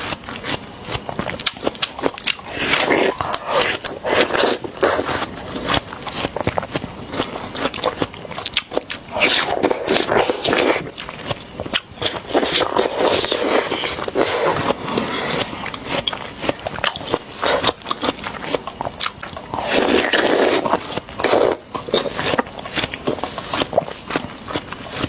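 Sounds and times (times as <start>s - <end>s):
person chewing watermelon: 0.0s - 25.0s.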